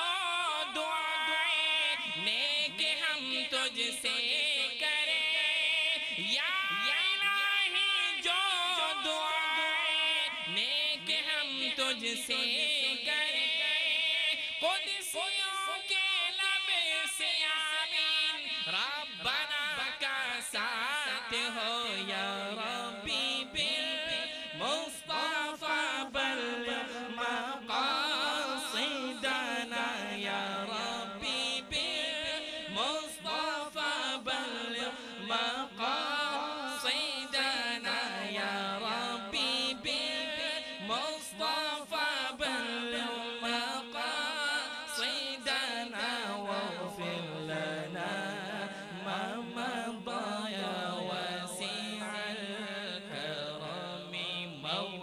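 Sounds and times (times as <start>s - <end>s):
amplified man reciting: 0.0s - 55.0s
men chanting in unison: 0.0s - 55.0s.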